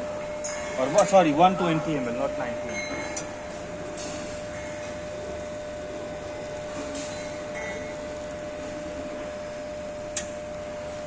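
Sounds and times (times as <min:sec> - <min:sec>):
coffee machine humming: 0:00.0 - 0:11.0.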